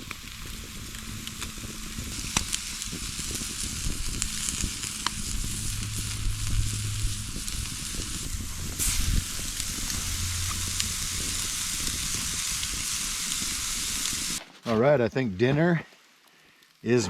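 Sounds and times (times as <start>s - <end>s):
campfire sizzling and popping: 0.0s - 17.0s.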